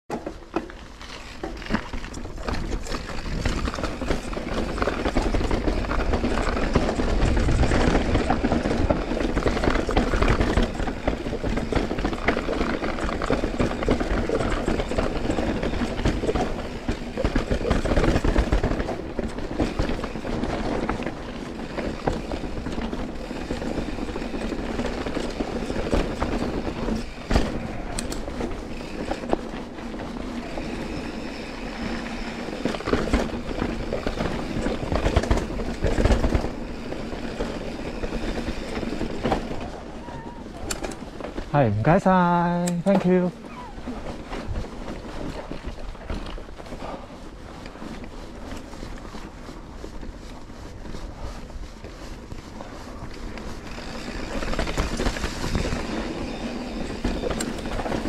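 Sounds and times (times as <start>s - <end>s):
bike rattle and tyre noise: 0.1s - 58.0s.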